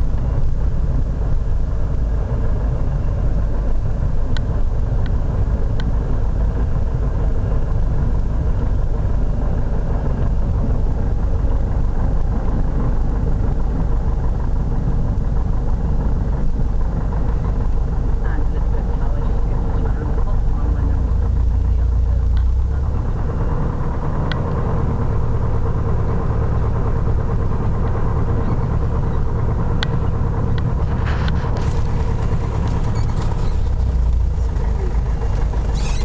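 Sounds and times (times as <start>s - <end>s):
aircraft engine droning: 0.0s - 36.0s.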